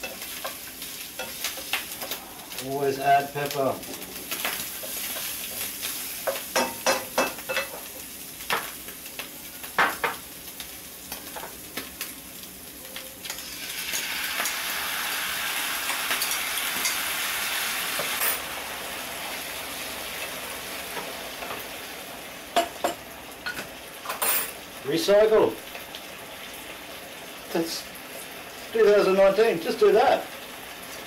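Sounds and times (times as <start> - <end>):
food sizzling in frying pan: 0.0 - 31.0.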